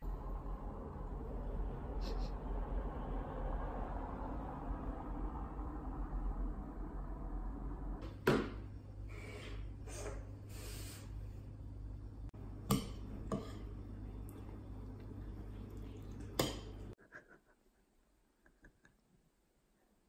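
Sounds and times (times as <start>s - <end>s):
steady low hum: 0.0s - 17.1s.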